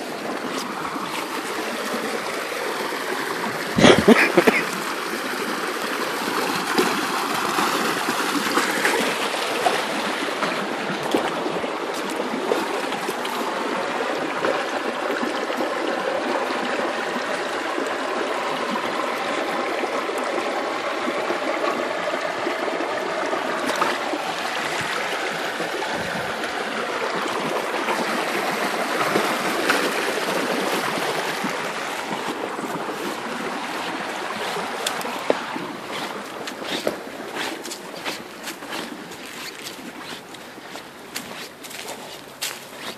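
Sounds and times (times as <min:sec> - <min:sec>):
creek water running over rocks: 0:00.0 - 0:42.9.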